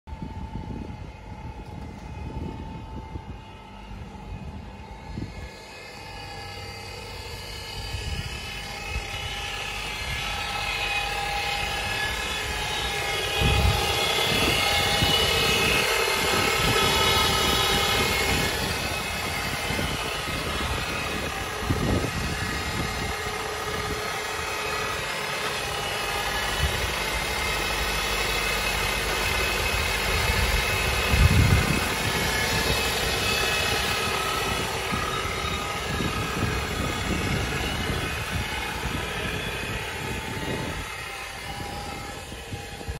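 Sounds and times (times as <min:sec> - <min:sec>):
car powertrain whirring whine: 0:00.0 - 0:42.9.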